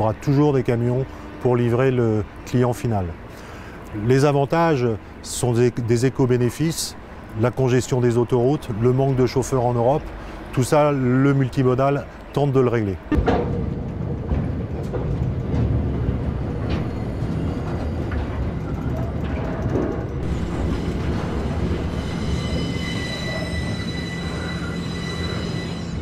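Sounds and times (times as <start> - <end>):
freight train wagons rumbling: 0.0 - 26.0.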